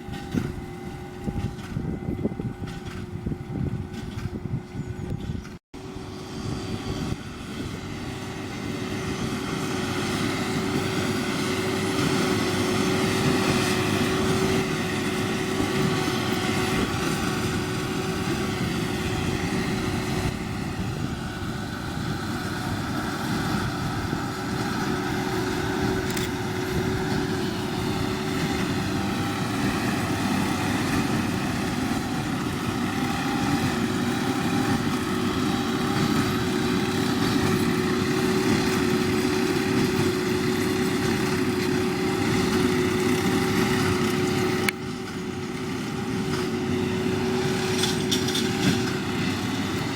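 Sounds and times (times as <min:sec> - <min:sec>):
steady baler hum: 0:00.0 - 0:49.9
tractor diesel engine running: 0:00.0 - 0:49.9.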